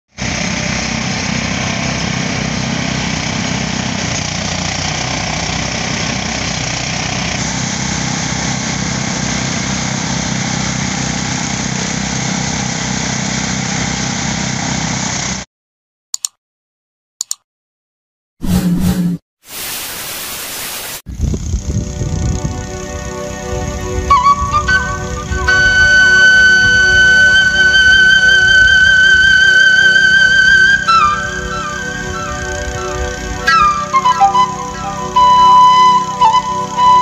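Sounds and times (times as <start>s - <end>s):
rice thresher engine running: 0.1s - 15.4s, 21.1s - 37.0s.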